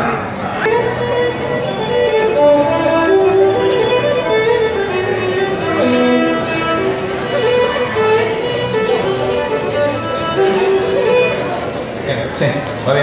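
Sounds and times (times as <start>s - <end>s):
fiddle folk tune with band: 0.5s - 12.8s.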